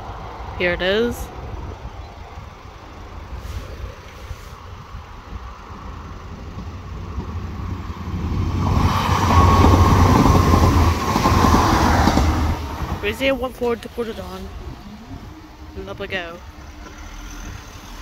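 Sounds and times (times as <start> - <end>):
train running over rails: 0.0 - 18.0.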